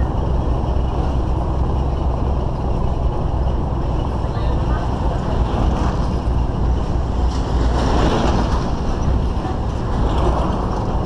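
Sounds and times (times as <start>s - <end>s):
vehicle towing trailer on dirt road: 0.0s - 11.0s.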